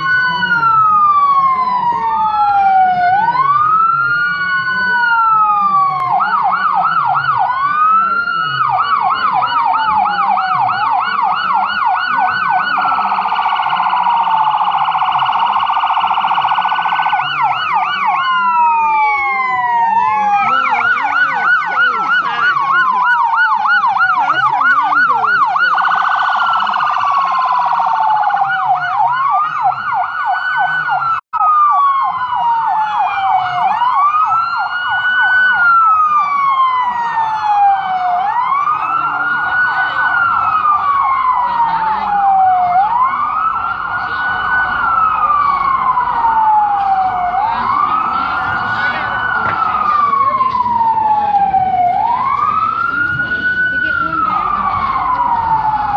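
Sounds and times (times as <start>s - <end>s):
police car sirens: 0.0s - 55.9s.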